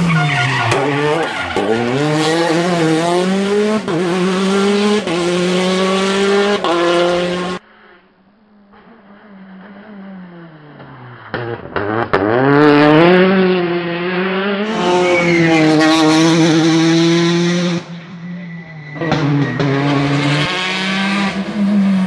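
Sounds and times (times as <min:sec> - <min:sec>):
rally car engines at full throttle: 0:00.0 - 0:22.0.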